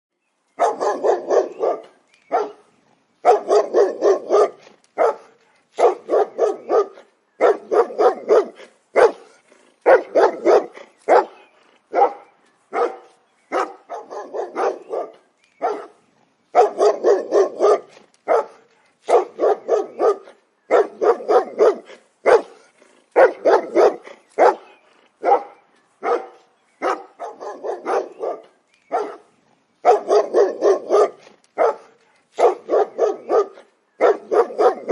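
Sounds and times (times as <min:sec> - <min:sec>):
dog barking: 0:00.6 - 0:34.9.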